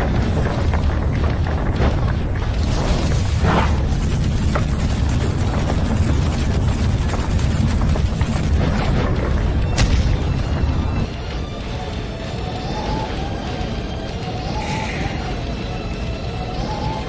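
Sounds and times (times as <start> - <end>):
deep rumbling booms and blasts: 0.0 - 13.7.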